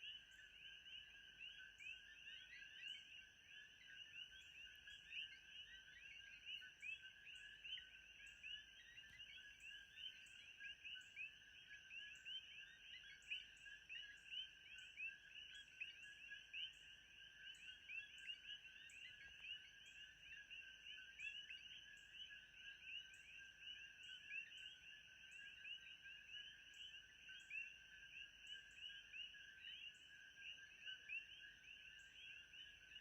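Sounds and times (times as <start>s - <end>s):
frogs chirping: 0.0s - 33.0s.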